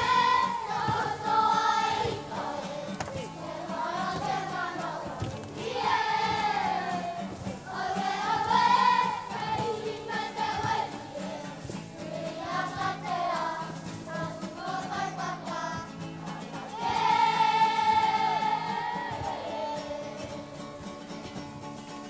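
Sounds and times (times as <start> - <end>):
children singing together: 0.0 - 21.2
guitar accompaniment: 0.0 - 22.0.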